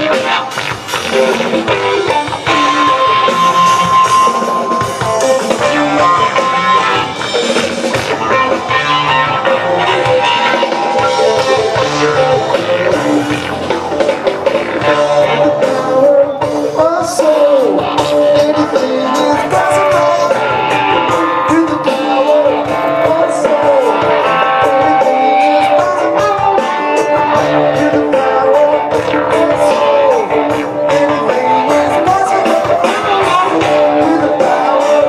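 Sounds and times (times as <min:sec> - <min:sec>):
rock band playing live: 0:00.0 - 0:35.0.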